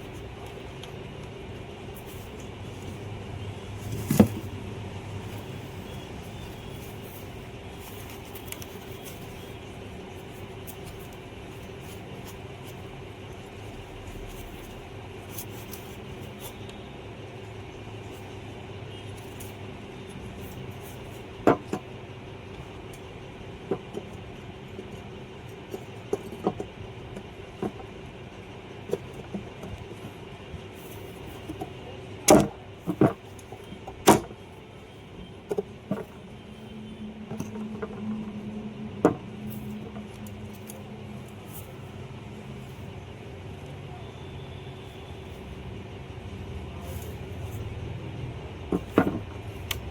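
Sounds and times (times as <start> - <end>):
steady background hum: 0.0 - 49.9.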